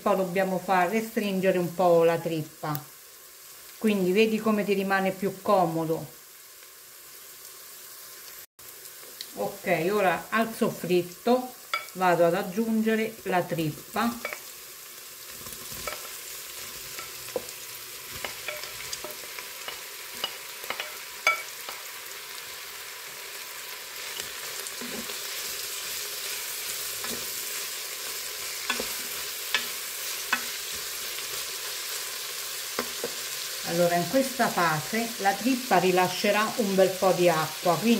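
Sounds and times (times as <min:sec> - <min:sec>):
food sizzling in hot oil: 0:00.0 - 0:37.9.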